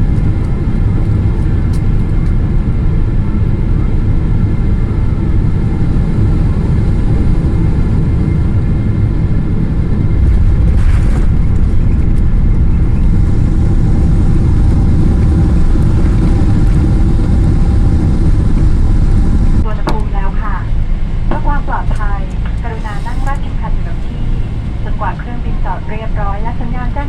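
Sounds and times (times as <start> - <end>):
airplane cabin rumble: 0.0 - 27.0
jet engine whine: 0.0 - 27.0.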